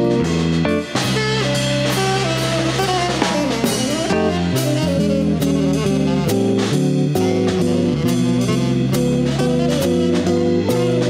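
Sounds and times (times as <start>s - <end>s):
bass notes: 0.0s - 11.0s
drum kit and cymbals: 0.0s - 11.0s
electric keyboard chords: 0.0s - 11.0s
tenor saxophone melody: 1.0s - 11.0s.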